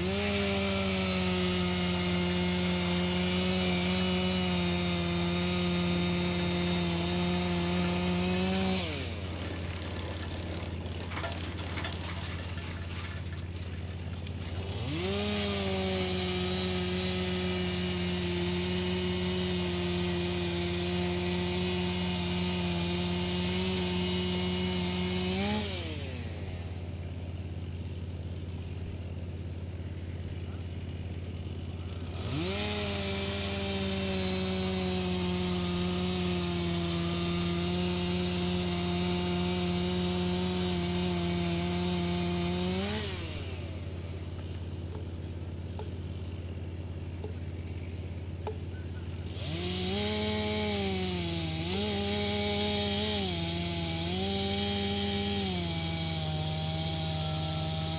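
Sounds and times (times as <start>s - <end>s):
wood chipper engine drone: 0.0s - 57.9s
wood chipper whine: 0.0s - 57.9s.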